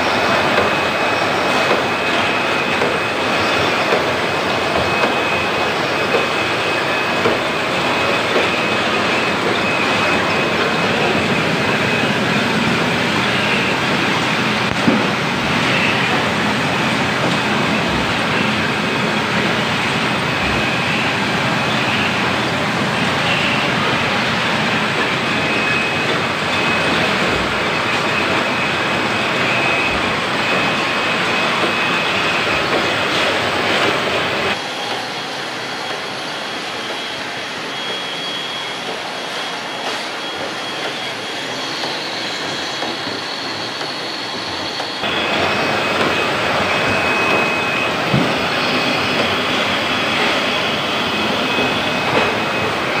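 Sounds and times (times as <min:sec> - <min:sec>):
thin high whine: 0:00.0 - 0:53.0.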